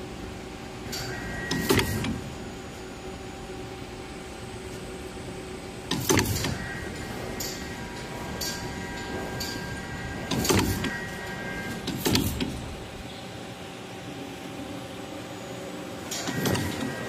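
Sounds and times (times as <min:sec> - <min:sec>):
faint motor whine: 0:00.0 - 0:17.0
machine hum: 0:00.0 - 0:17.0.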